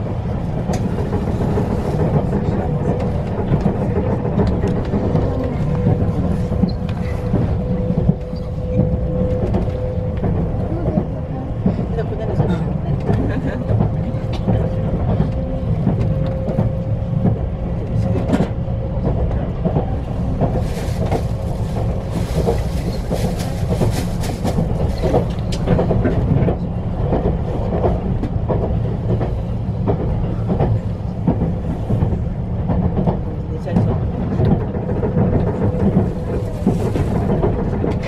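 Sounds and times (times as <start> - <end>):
train low rumble: 0.0 - 38.0.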